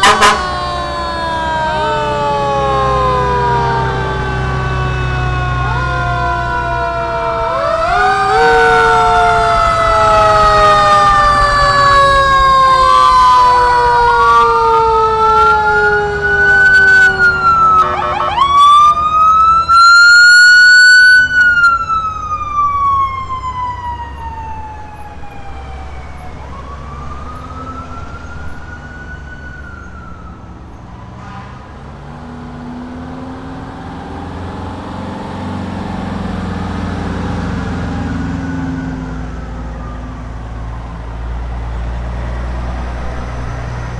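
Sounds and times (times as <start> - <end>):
fire engine sirens: 0.0 - 43.9
truck engines rumbling: 0.0 - 43.9.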